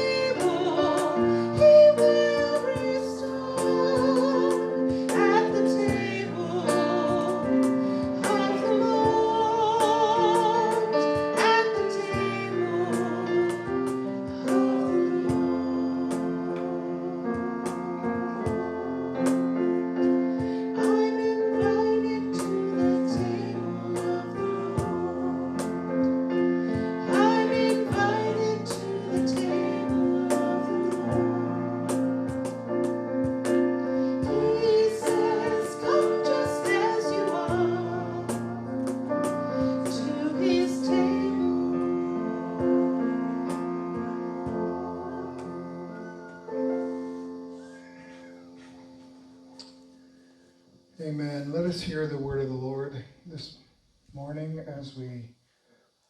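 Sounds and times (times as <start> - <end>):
woman singing slow song: 0.0 - 32.2, 33.8 - 46.6
piano accompaniment: 0.0 - 53.0.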